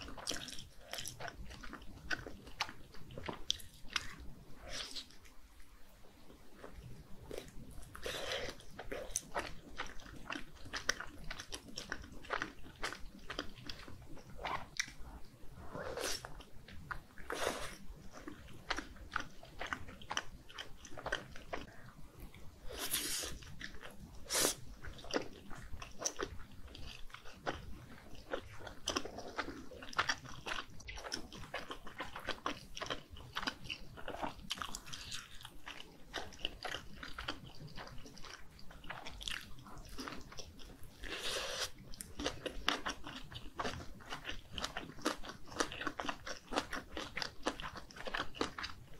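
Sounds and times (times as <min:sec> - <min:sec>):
person chewing wet food: 0:00.0 - 0:05.6, 0:06.2 - 0:48.9.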